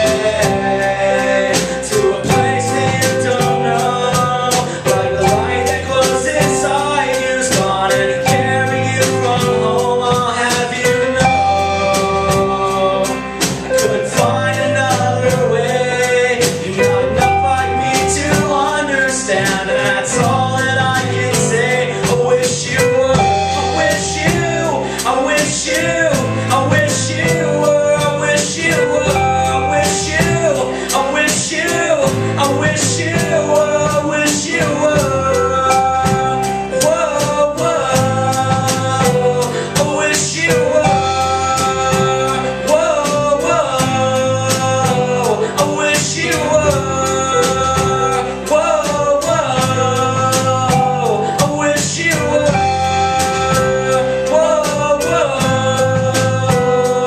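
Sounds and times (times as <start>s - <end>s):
drum kit beat: 0.0s - 57.0s
rock band playing live: 0.0s - 57.0s.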